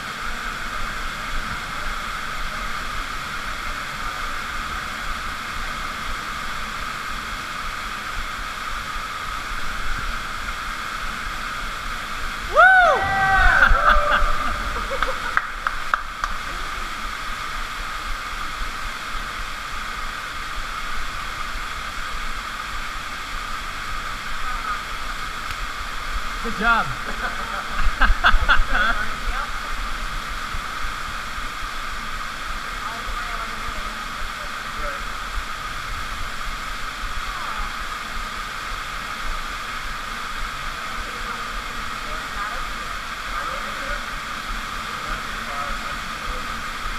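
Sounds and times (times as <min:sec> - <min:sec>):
waterfall rushing into pool: 0:00.0 - 0:46.9.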